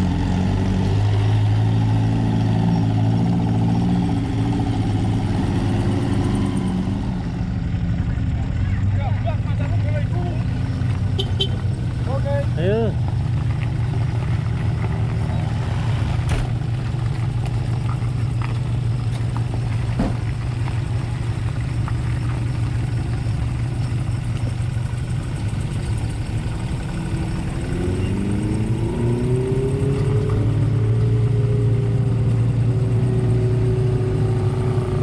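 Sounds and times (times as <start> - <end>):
engine running and revving: 0.0 - 35.0.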